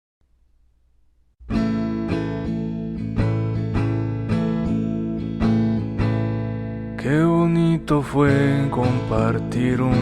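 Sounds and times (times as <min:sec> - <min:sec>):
acoustic guitar strumming: 0:01.4 - 0:10.0.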